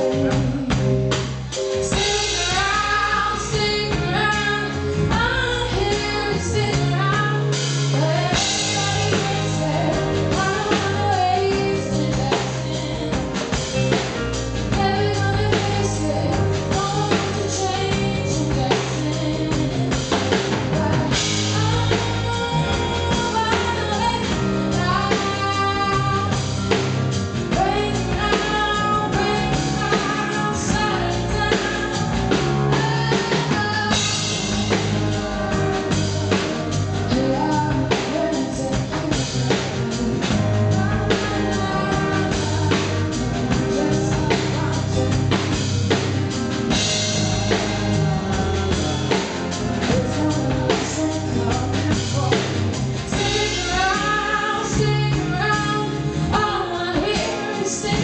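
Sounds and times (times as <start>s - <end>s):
live band playing: 0.0s - 58.0s
woman singing: 0.0s - 58.0s.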